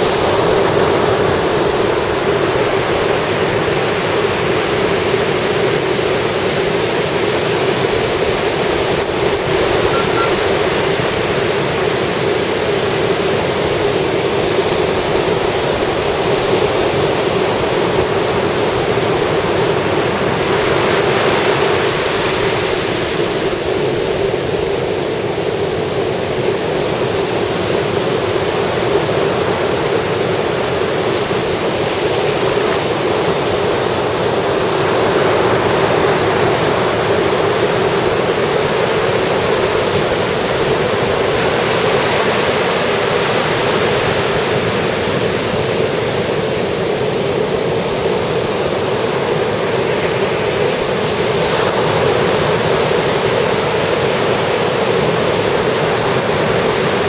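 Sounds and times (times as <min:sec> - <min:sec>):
ocean surf washing ashore: 0:00.0 - 0:57.0.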